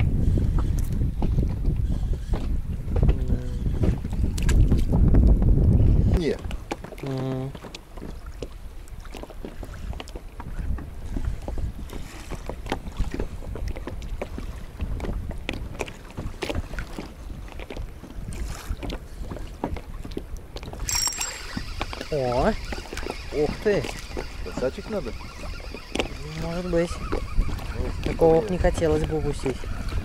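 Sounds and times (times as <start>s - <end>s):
waves slapping boat hull: 0.0s - 30.0s
wind buffeting microphone: 0.0s - 30.0s.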